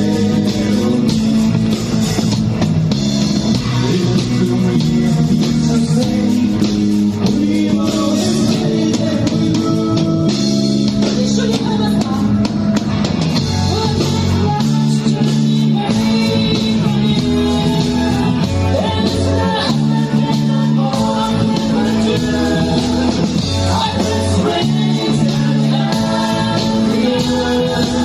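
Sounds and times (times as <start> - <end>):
rock band music: 0.0 - 28.0.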